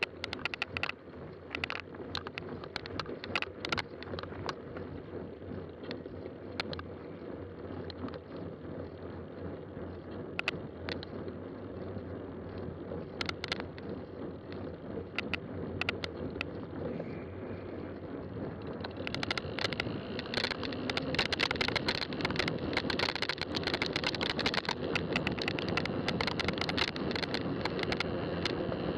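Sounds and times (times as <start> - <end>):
bike clicks and rattles: 0.0 - 28.9
bike rolling on a trail: 0.0 - 28.9.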